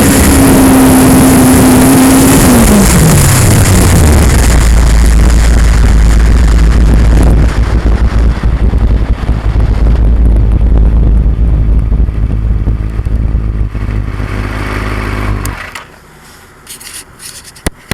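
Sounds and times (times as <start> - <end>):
distorted motorcycle engine running: 0.0 - 16.0.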